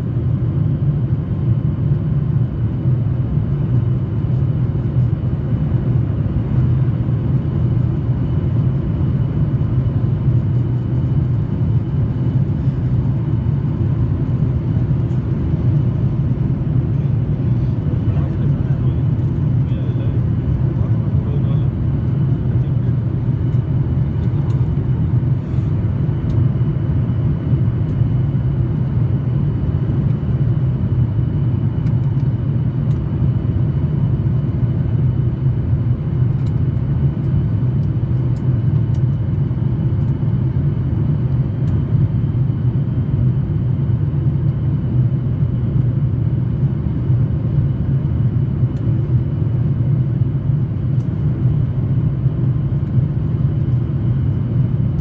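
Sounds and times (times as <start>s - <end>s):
aircraft cabin engine rumble: 0.0s - 55.0s.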